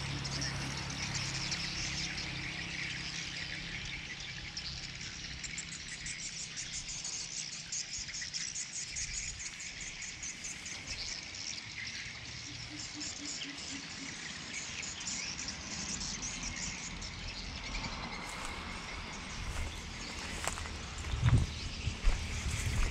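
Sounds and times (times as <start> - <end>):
insects chirping: 0.3 - 22.9.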